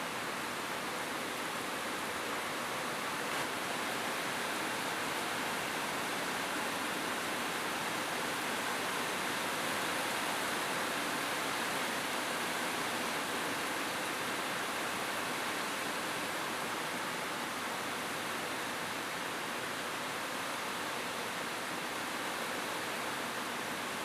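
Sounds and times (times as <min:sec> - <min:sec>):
rain on a rooftop: 0:00.0 - 0:24.0.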